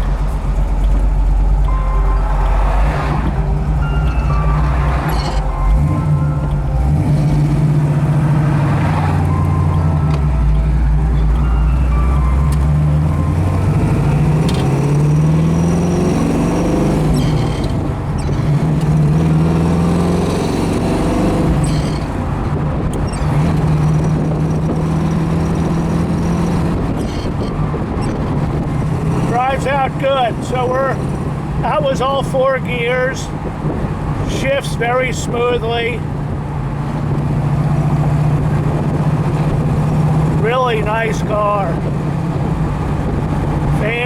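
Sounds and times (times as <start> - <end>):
car engine revving through gears: 0.0 - 44.0.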